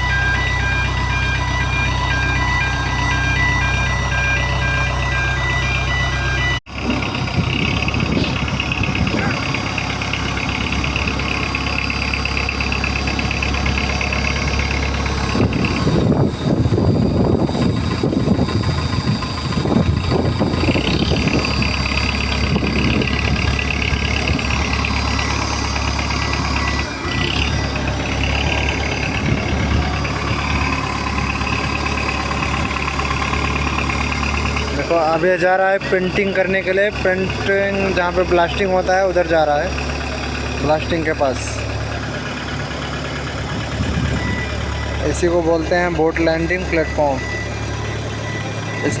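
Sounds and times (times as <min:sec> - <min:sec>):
heavy vehicle engine running: 0:00.0 - 0:49.0.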